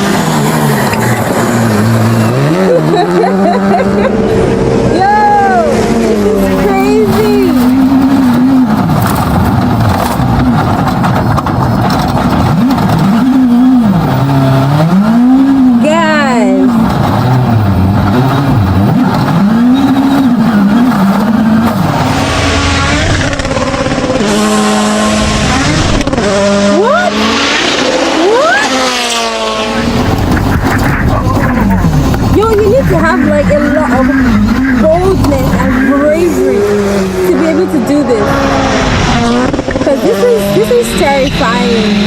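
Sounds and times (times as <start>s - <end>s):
gravel and road noise: 0.0s - 42.0s
rally car engine revving: 0.0s - 42.0s.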